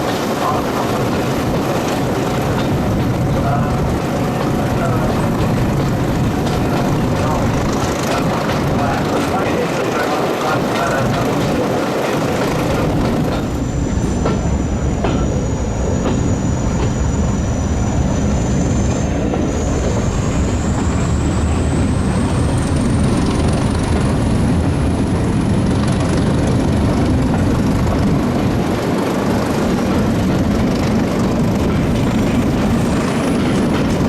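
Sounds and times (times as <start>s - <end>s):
diesel train rumbling: 0.0s - 34.0s.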